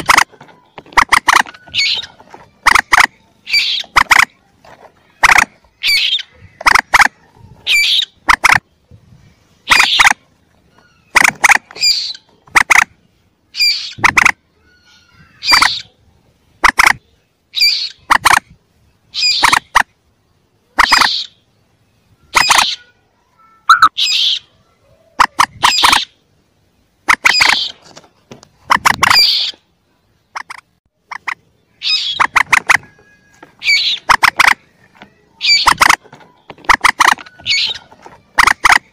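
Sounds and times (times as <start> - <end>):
moorhen calls: 0.0 - 4.4, 5.0 - 8.8, 9.6 - 18.5, 19.1 - 19.9, 20.7 - 21.5, 22.1 - 26.2, 27.0 - 28.0, 28.6 - 29.7, 30.3 - 38.9.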